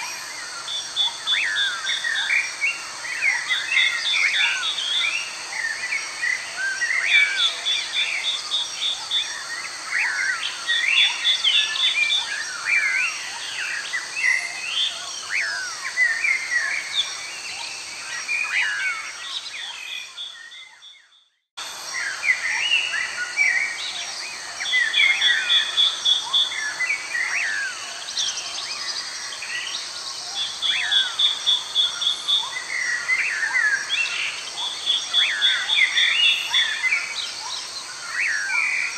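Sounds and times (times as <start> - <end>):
high insect hum: 0.0 - 21.0, 21.6 - 38.9.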